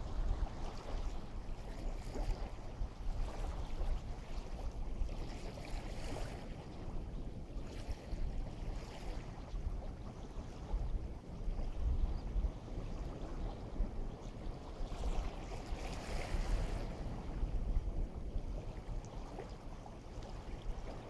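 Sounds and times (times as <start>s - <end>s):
small waves washing on shore: 0.0s - 11.9s, 12.6s - 21.0s
wind rumbling on microphone: 0.0s - 21.0s.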